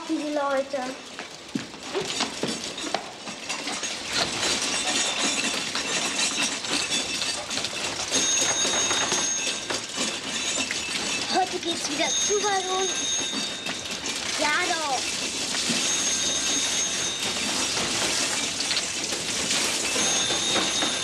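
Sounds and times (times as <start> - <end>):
dishwasher load crashing and rattling: 1.7 - 21.0.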